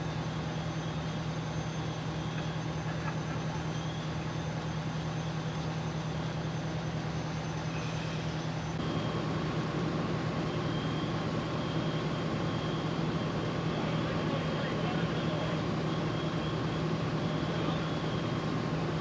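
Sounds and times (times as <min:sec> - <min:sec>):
fire truck diesel engines running: 0:00.0 - 0:19.0.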